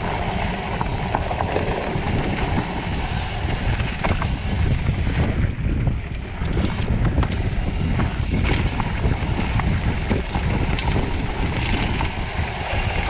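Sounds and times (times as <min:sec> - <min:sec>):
bike tyres rumbling on dirt: 0:00.0 - 0:13.0
gravel and bike rattles: 0:00.0 - 0:13.0
wind buffeting microphone: 0:00.0 - 0:13.0.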